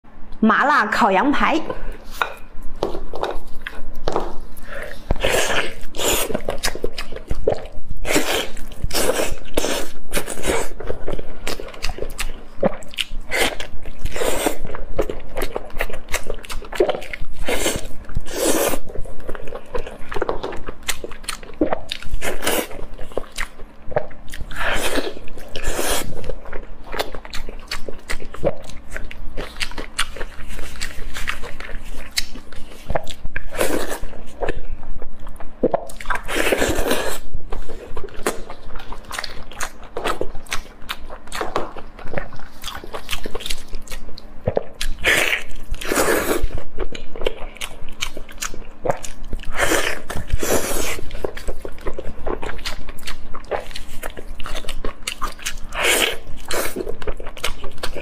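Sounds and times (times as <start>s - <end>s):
biting and chewing: 2.1s - 58.0s.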